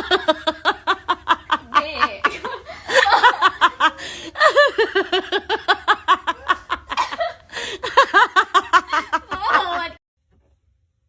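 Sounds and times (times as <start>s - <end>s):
person laughing hard: 0.0s - 9.9s.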